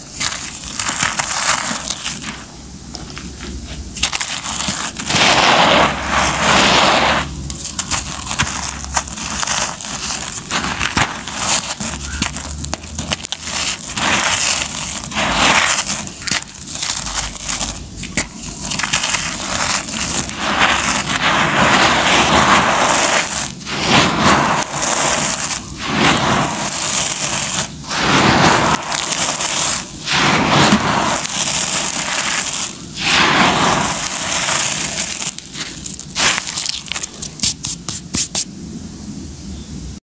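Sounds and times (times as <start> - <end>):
concrete grit crunching and pouring: 0.0 - 38.5.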